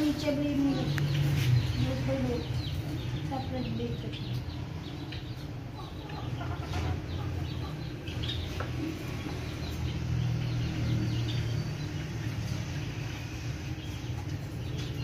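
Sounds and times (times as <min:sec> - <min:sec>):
birds calling: 0:00.0 - 0:15.0
chickens clucking: 0:00.0 - 0:15.0.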